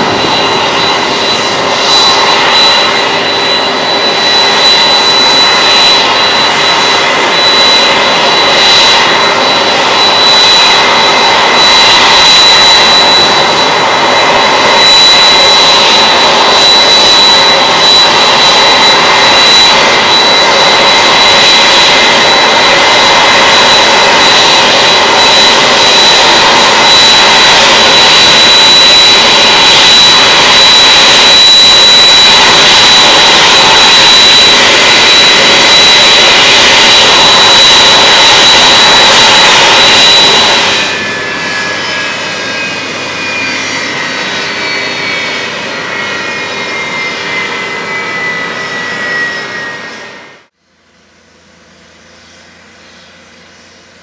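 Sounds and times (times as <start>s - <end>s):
jet engines idling with high whine: 0.0s - 54.0s
jet engines spooling down: 0.0s - 54.0s.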